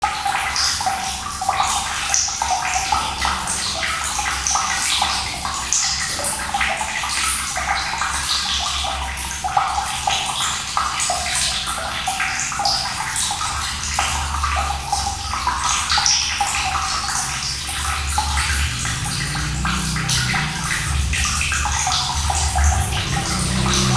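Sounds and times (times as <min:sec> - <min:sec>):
running water splashing: 0:00.1 - 0:23.9.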